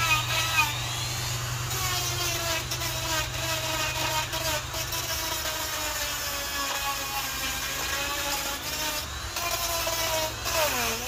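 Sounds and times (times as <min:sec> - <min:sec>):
burr grinding wood: 0:00.0 - 0:11.0
die grinder whining: 0:00.0 - 0:11.0.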